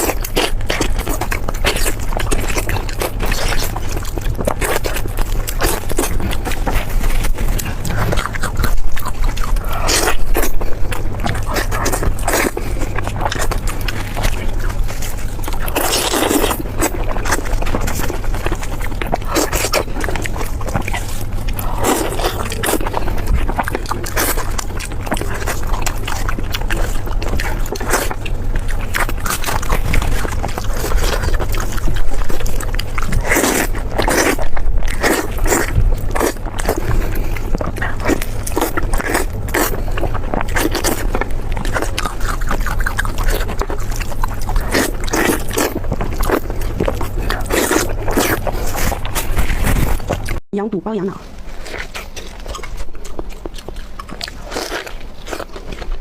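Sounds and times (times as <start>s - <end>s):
person chewing and biting food: 0.0s - 50.4s, 51.1s - 56.0s
food crunching: 0.0s - 56.0s
steady low hum: 0.0s - 56.0s.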